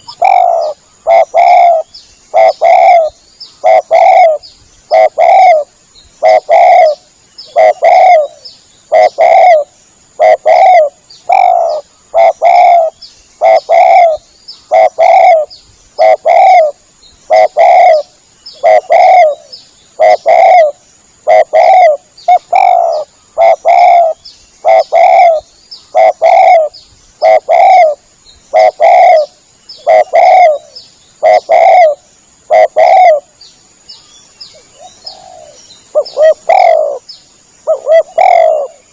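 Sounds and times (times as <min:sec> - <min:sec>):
dove cooing: 0:00.0 - 0:33.3, 0:34.6 - 0:38.9.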